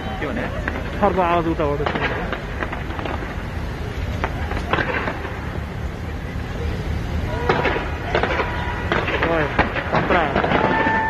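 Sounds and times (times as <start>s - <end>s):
fireworks booming: 0.0s - 11.0s
sharp fireworks cracks: 0.0s - 11.0s.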